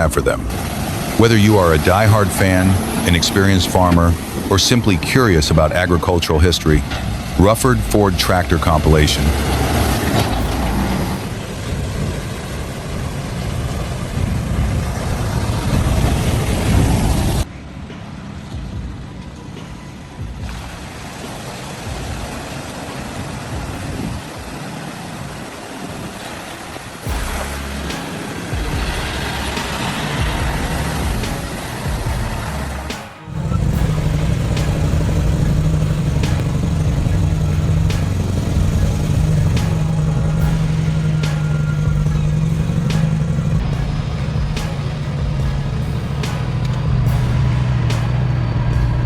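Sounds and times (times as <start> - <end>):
vehicle engine running: 0.0 - 17.5, 27.1 - 49.0.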